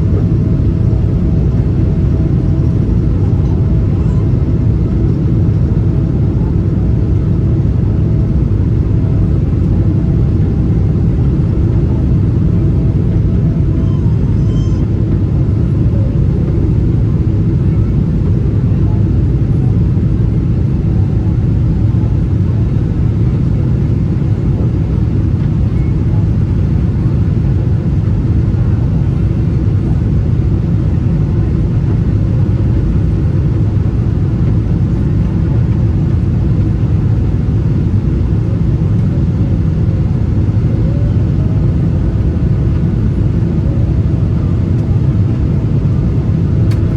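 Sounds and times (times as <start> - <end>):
jet engines low rumble: 0.0 - 46.9.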